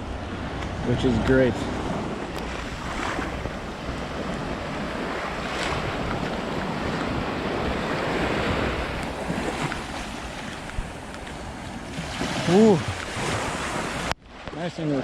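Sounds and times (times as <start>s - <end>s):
wind buffeting microphone: 0.0s - 14.6s
sea water washing and lapping: 0.0s - 15.0s.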